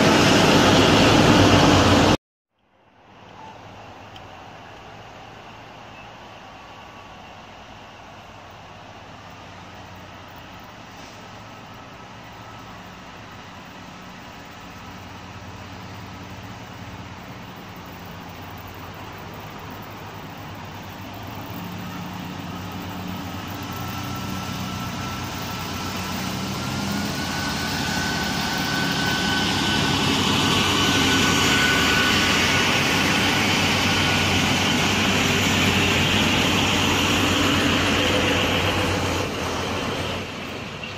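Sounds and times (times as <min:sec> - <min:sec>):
diesel engines running: 0:00.0 - 0:02.2, 0:03.2 - 0:40.9
thin whine: 0:03.1 - 0:40.9.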